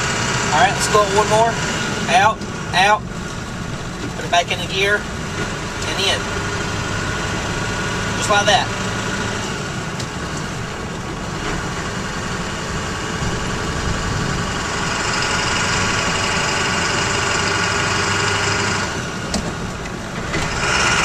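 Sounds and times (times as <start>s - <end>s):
diesel engine pulling in gear: 0.0s - 21.0s.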